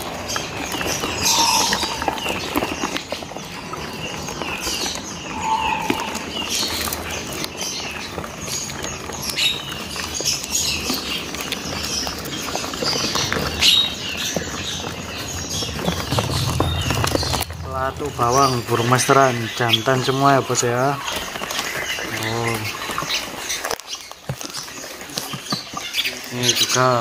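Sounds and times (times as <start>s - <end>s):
birds chirping: 0.0s - 11.4s, 12.4s - 23.2s.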